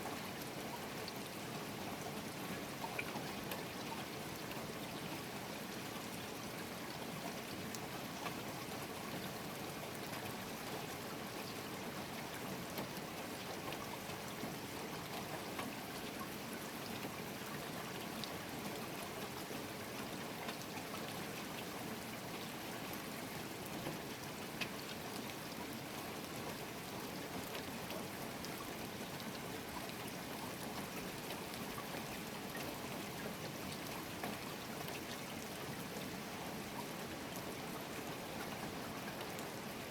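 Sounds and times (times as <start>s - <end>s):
steady rain falling: 0.0s - 39.9s
raindrops ticking close by: 0.3s - 39.9s.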